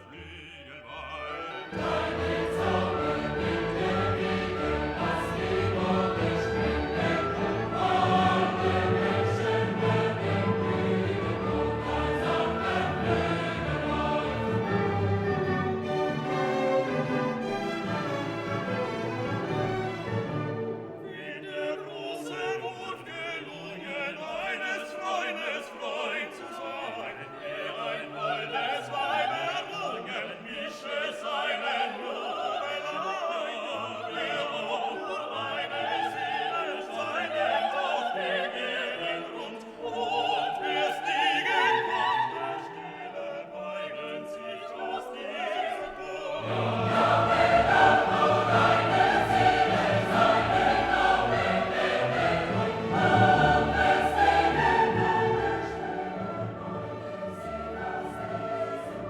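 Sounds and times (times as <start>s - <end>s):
choral music with orchestra: 0.0s - 59.0s.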